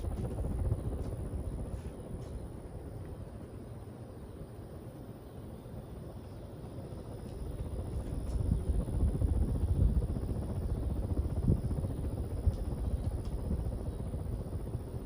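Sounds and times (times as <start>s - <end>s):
fan airflow buffeting microphone: 0.0s - 15.0s.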